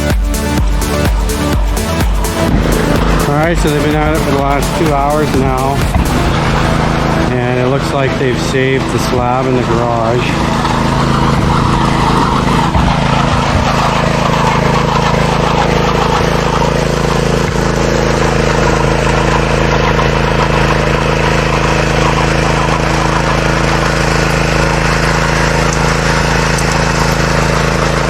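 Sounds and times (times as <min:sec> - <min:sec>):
power trowel engine running: 0:00.0 - 0:28.0.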